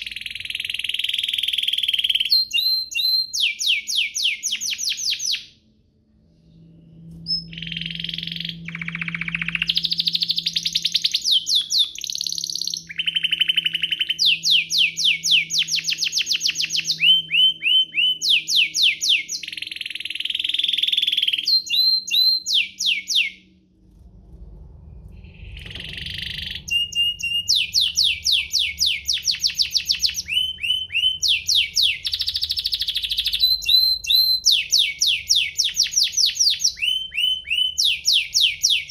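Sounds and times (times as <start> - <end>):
canary singing trills: 0.0 - 5.6, 7.0 - 23.5, 25.3 - 38.9.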